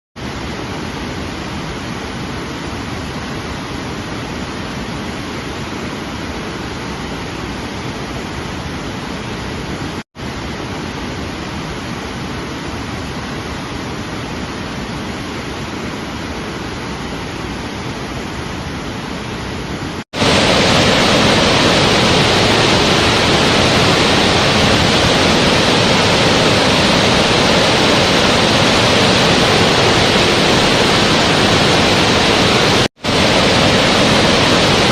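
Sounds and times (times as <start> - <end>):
rushing water: 0.2 - 34.9.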